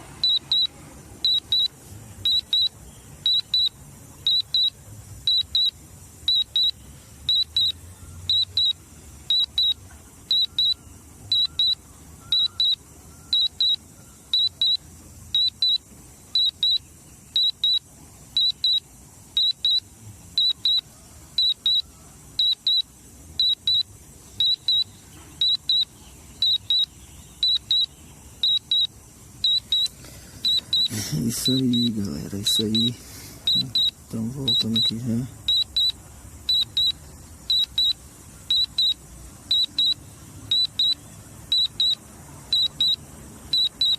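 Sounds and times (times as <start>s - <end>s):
high-pitched double beeps: 0.2s - 18.8s, 19.4s - 20.8s, 21.4s - 29.9s, 30.5s - 43.9s.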